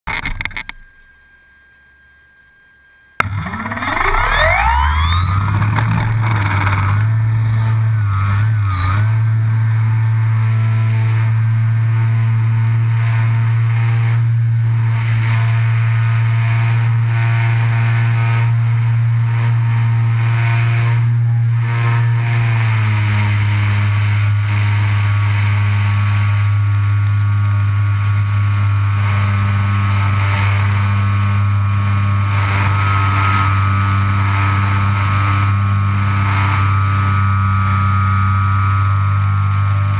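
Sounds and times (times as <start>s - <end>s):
model plane motor buzzing: 0.1s - 1.0s, 3.2s - 39.9s.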